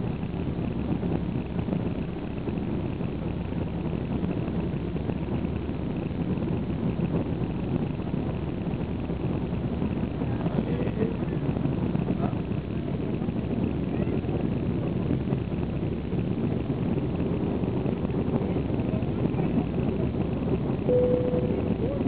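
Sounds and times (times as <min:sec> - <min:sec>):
jet engines at takeoff thrust: 0:00.0 - 0:22.0.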